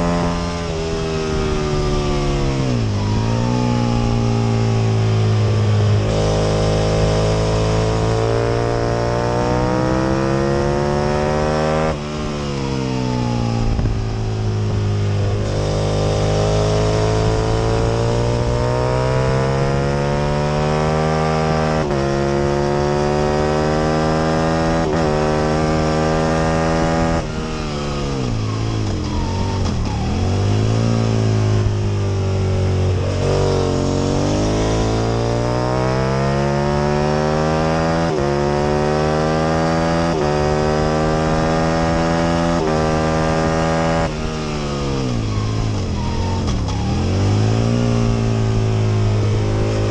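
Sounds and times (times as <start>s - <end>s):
racing motorcycle engine revving: 0.0s - 49.9s.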